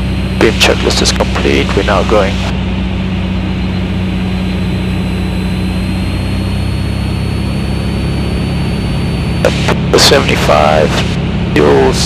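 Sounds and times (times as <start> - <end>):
propeller plane engine droning: 0.0 - 12.0
thin high whine: 0.0 - 12.0.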